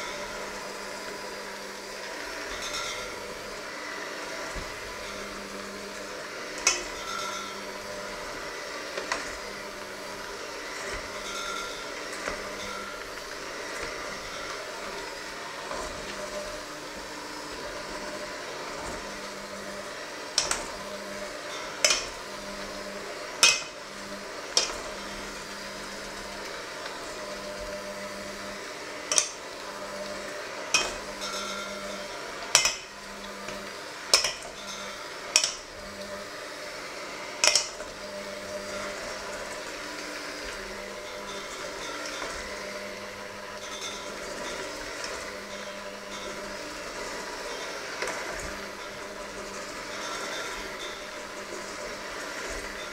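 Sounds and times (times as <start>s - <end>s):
electric hand mixer running: 0.0s - 52.9s.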